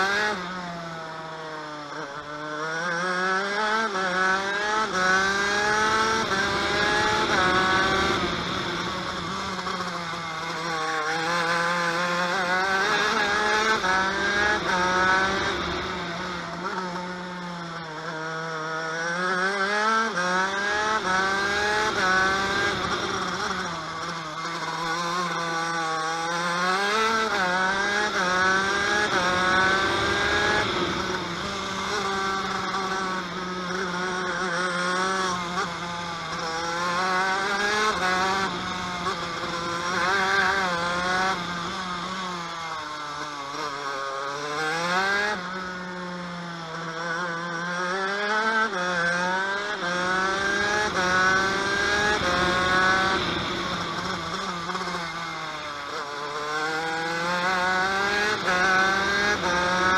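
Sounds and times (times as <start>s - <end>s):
kart engine revving through gears: 0.0s - 59.9s.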